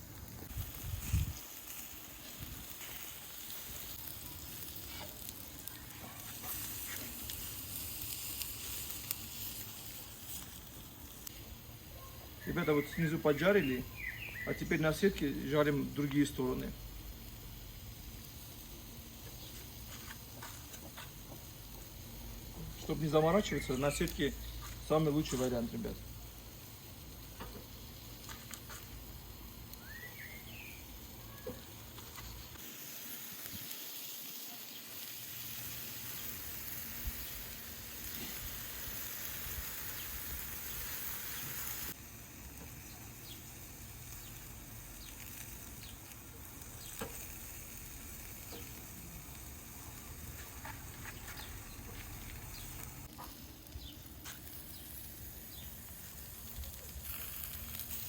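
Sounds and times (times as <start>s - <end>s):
charcoal crackles and pops: 0.0s - 58.0s
meat sizzling on a grill: 0.0s - 58.0s.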